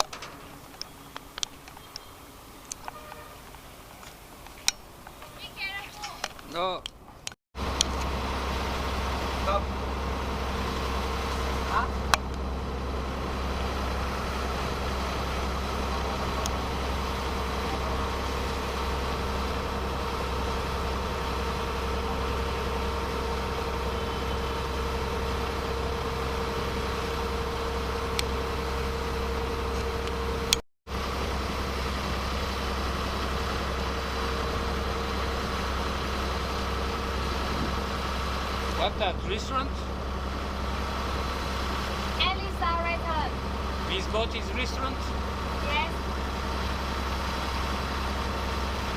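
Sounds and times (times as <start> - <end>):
boat engine droning: 0.0 - 3.9, 7.6 - 48.9.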